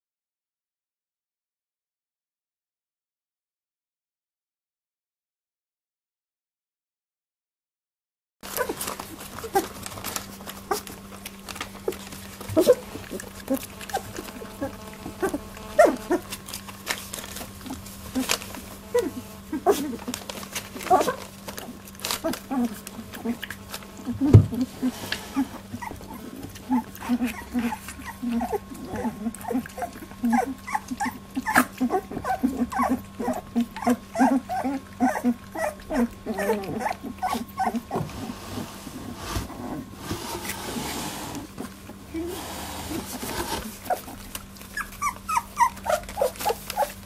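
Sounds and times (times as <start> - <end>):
puppies squeaking and grunting: 8.4 - 47.0.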